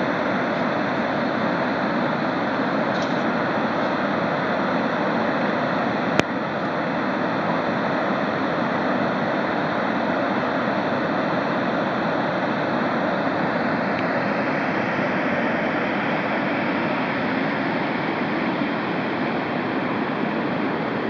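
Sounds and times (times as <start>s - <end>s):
steam vent hissing: 0.0s - 21.0s.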